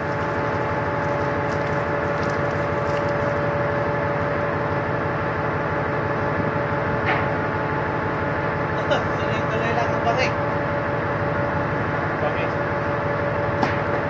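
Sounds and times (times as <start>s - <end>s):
ship machinery drone: 0.0s - 14.0s.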